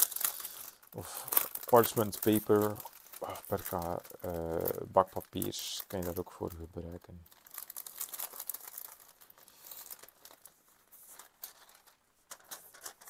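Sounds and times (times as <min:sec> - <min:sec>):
paper sheets crinkling: 0:00.0 - 0:13.0.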